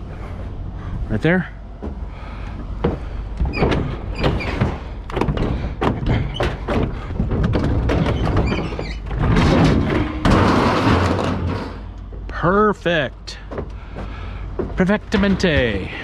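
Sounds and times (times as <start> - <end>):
scrap metal knocks and thunks: 1.7 - 12.3, 13.3 - 16.0.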